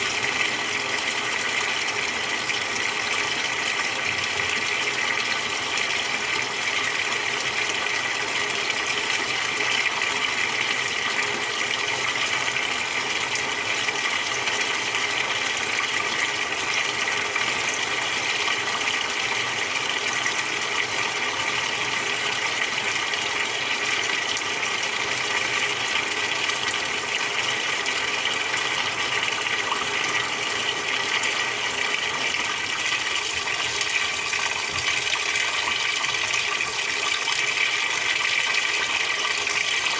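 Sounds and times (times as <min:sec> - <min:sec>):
water running in washing machine: 0:00.0 - 0:39.9.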